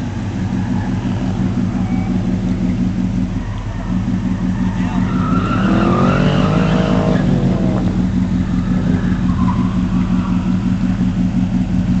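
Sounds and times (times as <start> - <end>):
car engine revs dropping: 0.0 - 12.0.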